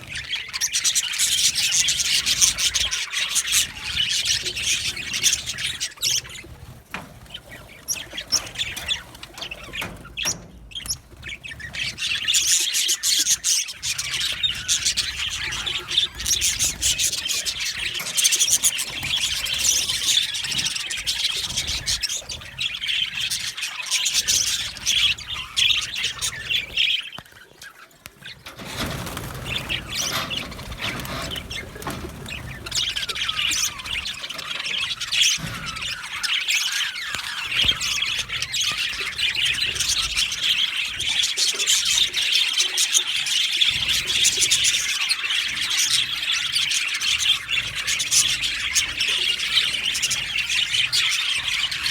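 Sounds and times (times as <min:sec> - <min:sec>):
budgerigars chirping and chattering: 0:00.0 - 0:51.9.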